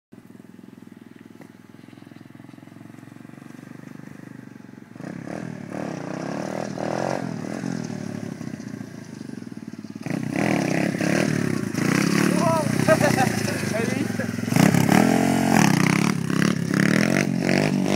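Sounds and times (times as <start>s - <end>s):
motorbike engine revving: 0.4s - 17.9s.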